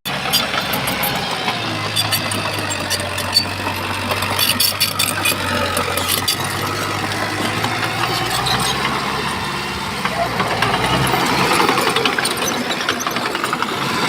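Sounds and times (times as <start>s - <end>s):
diesel engine running: 0.1s - 14.0s
sharp clicks and clatter: 0.1s - 14.0s.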